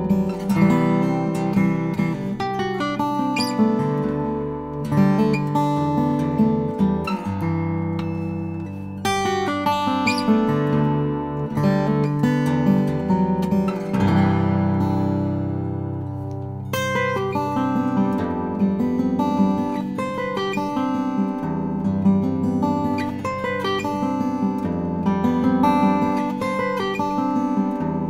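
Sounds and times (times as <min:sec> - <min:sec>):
fingerstyle acoustic guitar: 0:00.0 - 0:28.0.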